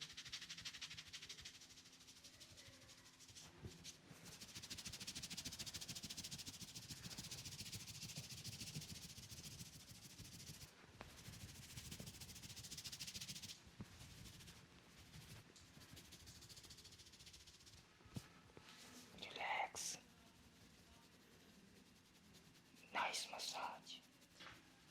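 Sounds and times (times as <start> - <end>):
hands rubbing hair and scalp: 3.0 - 17.9, 18.6 - 24.9.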